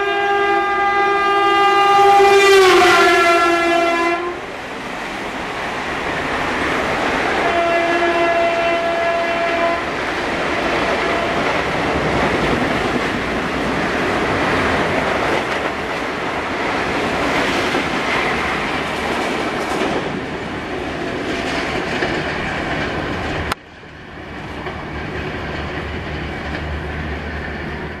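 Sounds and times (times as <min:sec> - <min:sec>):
train wheels on rails: 0:01.6 - 0:28.0.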